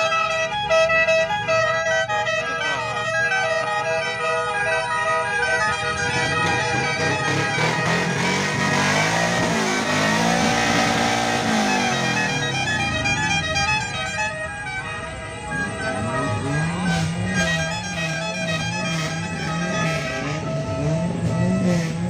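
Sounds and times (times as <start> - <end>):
multi-tone car horns playing notes: 0.0 - 22.0.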